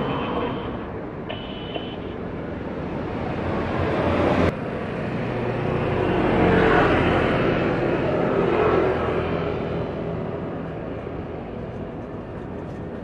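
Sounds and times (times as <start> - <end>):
jet airliner engines: 0.0 - 13.0.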